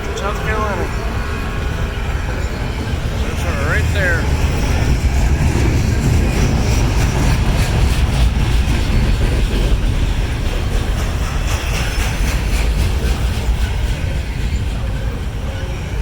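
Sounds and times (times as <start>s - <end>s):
wheels clattering over rails: 0.0s - 15.6s
freight train rumbling: 0.0s - 16.0s.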